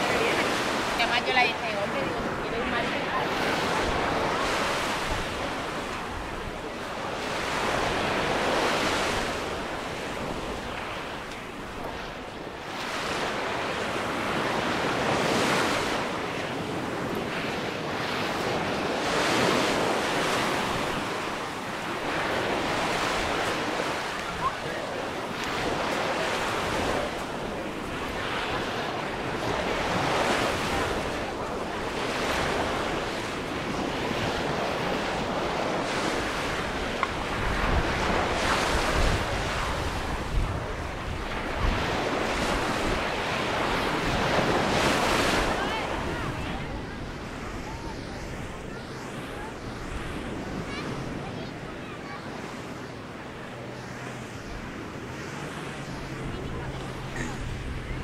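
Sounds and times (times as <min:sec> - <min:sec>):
sea waves breaking on shore: 0:00.0 - 0:58.0
wind on microphone: 0:00.0 - 0:58.0.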